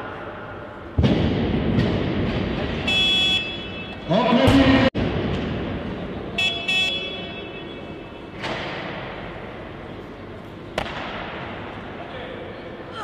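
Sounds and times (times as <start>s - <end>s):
weightlifting hall background noise: 0.0s - 13.0s.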